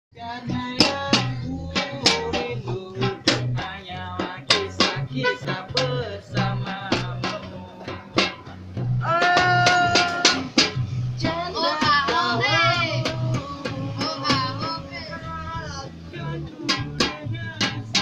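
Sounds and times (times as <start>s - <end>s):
plucked string instrument: 0.2s - 18.0s
steady low bass: 0.2s - 18.0s.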